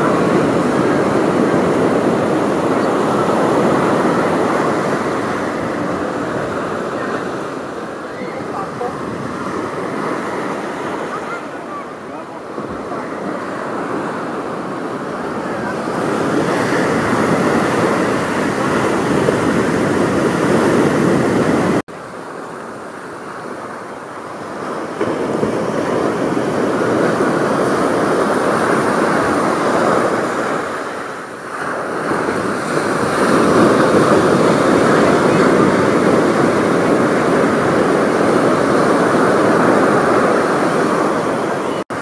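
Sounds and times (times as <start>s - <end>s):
ocean surf on beach: 0.0s - 42.0s.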